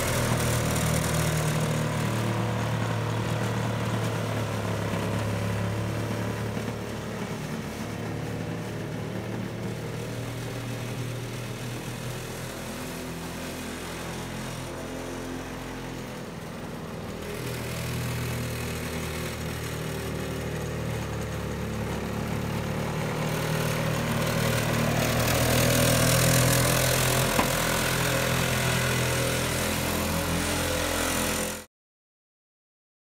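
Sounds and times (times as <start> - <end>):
mower engine running: 0.0 - 31.7.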